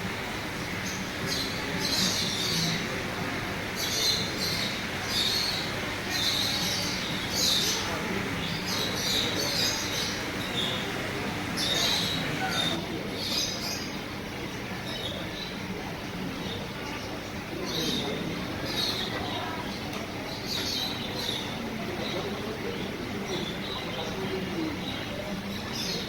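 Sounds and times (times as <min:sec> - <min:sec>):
cage birds chirping: 0:00.0 - 0:26.0.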